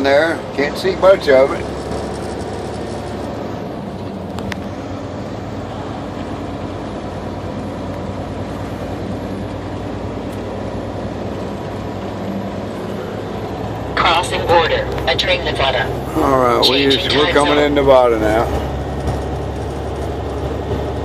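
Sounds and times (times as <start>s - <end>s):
diesel truck engine running: 0.0s - 21.0s
road noise: 0.0s - 21.0s.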